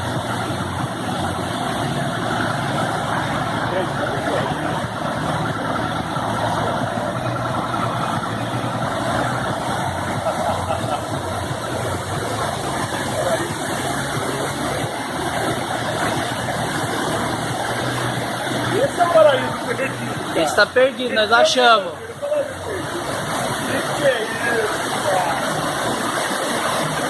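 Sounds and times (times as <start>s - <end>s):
boat engine running: 0.0s - 27.0s
wash of noise: 0.0s - 27.0s.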